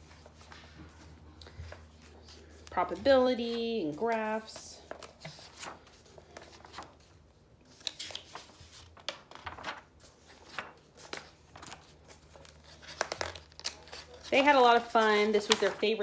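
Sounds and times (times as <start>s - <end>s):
book pages flipping: 0.0s - 16.0s.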